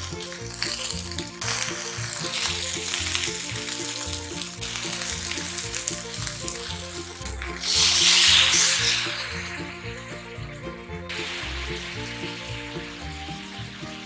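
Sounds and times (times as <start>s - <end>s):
food sizzling in a frying pan: 0.0s - 10.1s, 11.1s - 14.0s
liquid poured into hot pan: 0.0s - 10.3s, 11.1s - 14.0s.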